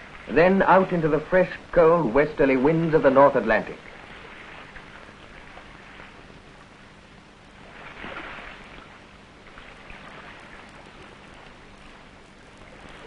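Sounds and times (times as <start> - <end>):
sea wash: 0.0 - 13.0
wave surging: 0.0 - 13.0.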